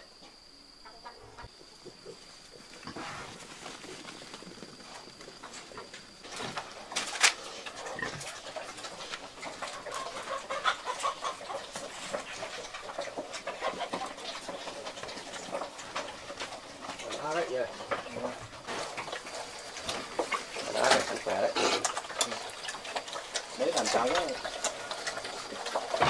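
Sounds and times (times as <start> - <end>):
farmyard animals calling: 0.8 - 26.0.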